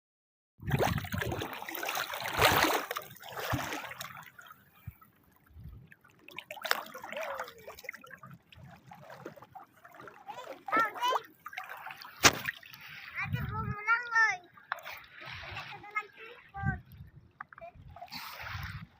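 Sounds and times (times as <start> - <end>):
water splashing and trickling: 0.6 - 18.9.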